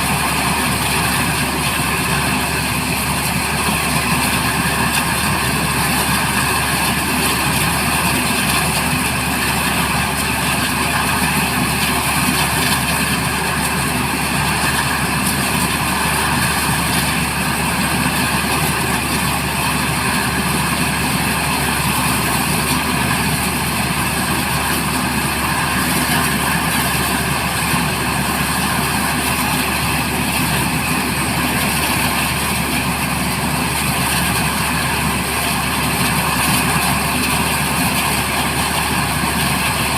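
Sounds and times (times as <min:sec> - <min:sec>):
helicopter engine drone: 0:00.0 - 0:39.9.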